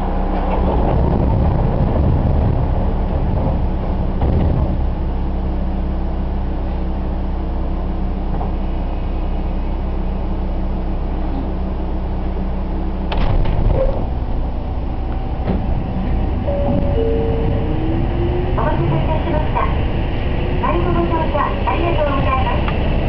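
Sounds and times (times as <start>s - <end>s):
electric train equipment humming: 0.0s - 23.0s.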